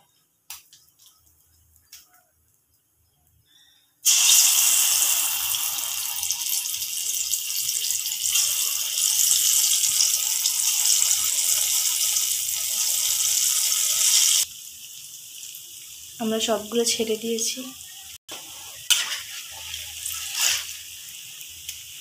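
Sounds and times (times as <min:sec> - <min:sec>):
batter sizzling in hot oil: 0:04.0 - 0:22.0.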